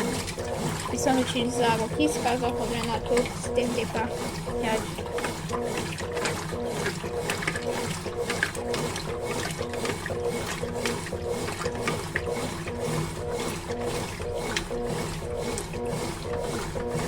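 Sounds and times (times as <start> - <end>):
washing machine motor humming: 0.0 - 17.0
water sloshing in tub: 0.0 - 17.0.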